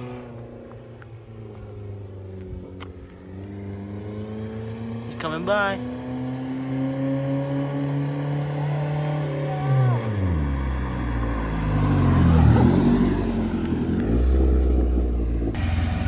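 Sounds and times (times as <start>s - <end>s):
loud car exhaust driving past: 0.0s - 16.0s.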